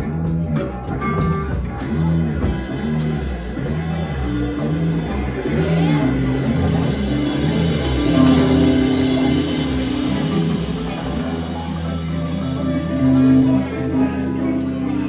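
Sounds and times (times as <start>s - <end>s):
electric guitar: 0.0s - 15.0s
live band instrumental: 0.0s - 15.0s.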